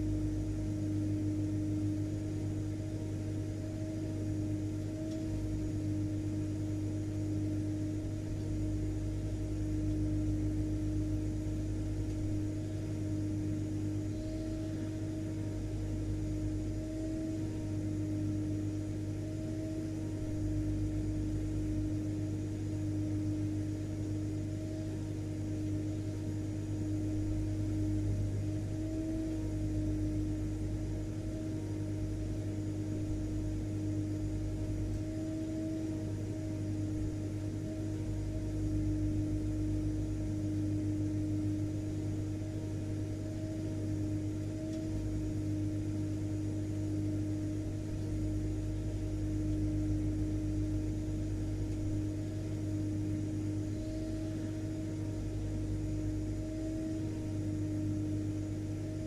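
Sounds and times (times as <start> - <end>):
vacuum cleaner running: 0.0 - 30.6, 31.2 - 59.0.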